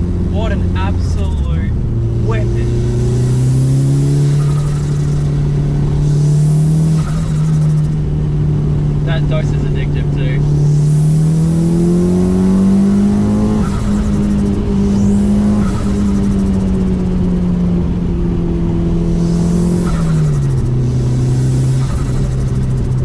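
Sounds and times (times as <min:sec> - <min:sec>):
car engine running under load: 0:00.0 - 0:23.0.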